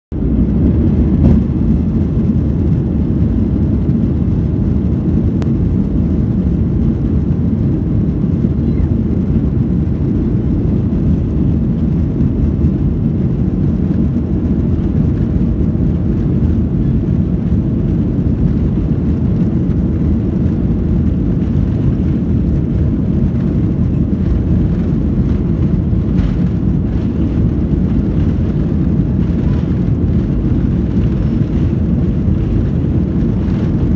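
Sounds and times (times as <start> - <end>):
jet engines rumbling at takeoff: 0.1 - 33.9.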